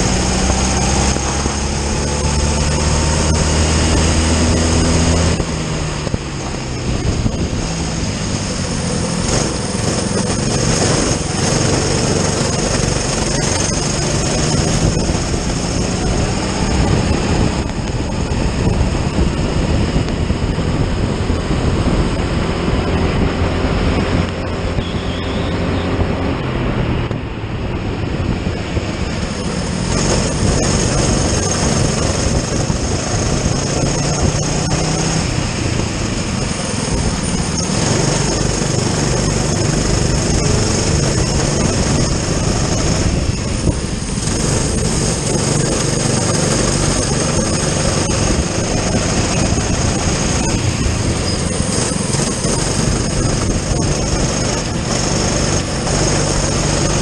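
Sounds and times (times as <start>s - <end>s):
racing kart engine: 0.0s - 57.0s
rushing noise: 0.0s - 57.0s.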